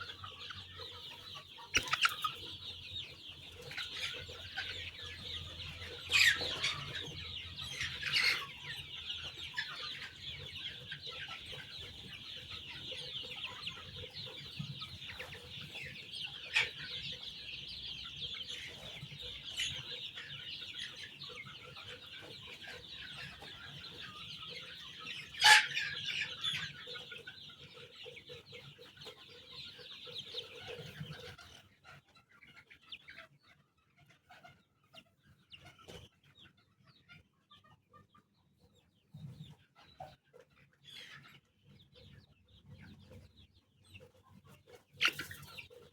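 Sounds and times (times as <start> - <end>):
chicks peeping chorus: 0.0 - 45.9.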